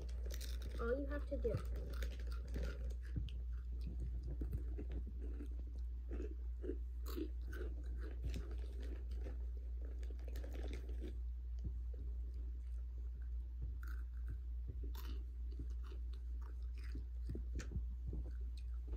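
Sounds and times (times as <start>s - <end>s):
person chewing crunchy chips: 0.0s - 11.2s, 12.6s - 18.9s
steady low hum: 0.0s - 18.9s.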